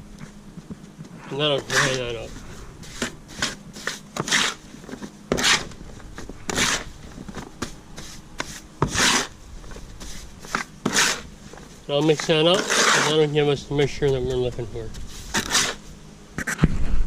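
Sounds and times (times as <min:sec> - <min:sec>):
tool scraping gritty mortar: 0:01.3 - 0:16.6.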